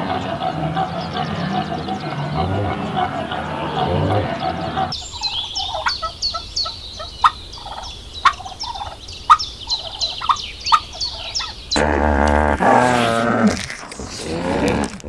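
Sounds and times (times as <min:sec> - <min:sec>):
guineafowl chattering calls: 0:00.0 - 0:12.3.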